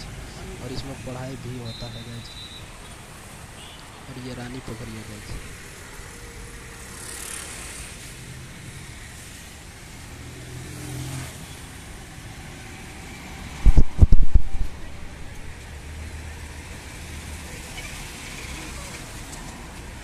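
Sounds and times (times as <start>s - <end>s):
motorcycle engines passing: 0.0s - 20.0s
street traffic: 0.0s - 20.0s.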